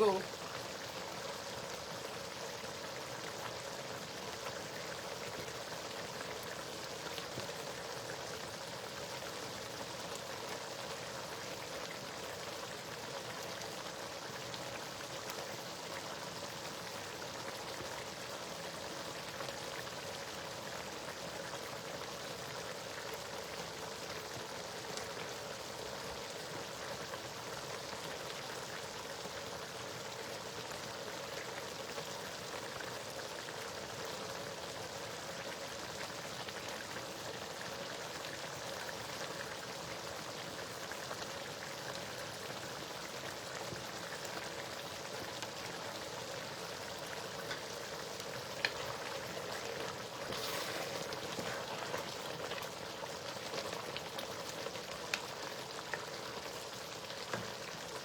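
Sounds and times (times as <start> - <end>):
stew bubbling and sizzling: 0.0 - 58.0.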